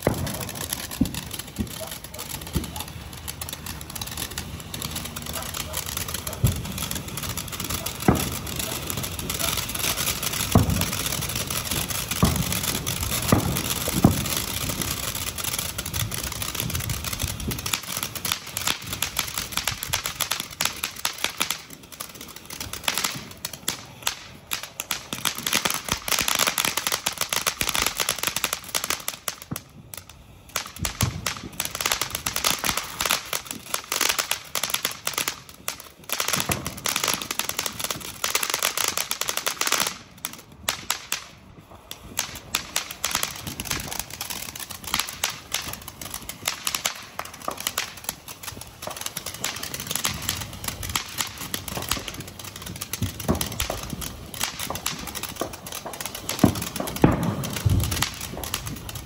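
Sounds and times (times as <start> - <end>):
firework fountain hissing: 0.0 - 59.0
rapid firework crackling: 0.0 - 59.0.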